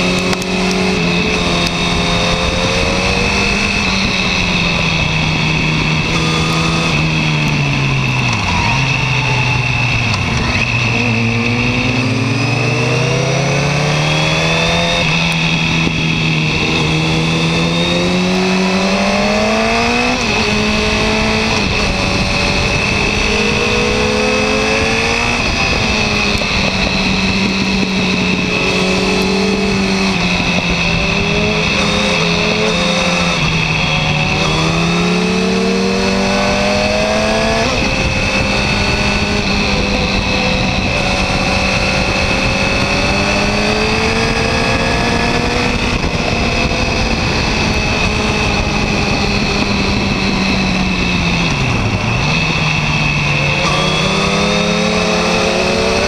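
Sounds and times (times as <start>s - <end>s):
motorcycle engine: 0.0s - 56.0s
wind and road noise: 0.0s - 56.0s.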